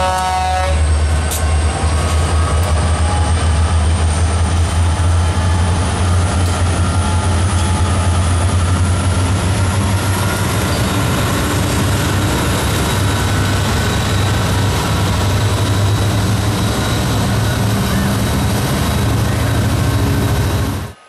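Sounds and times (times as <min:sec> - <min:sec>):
diesel locomotive engine: 0:00.0 - 0:21.0
freight cars rolling on rails: 0:00.0 - 0:21.0.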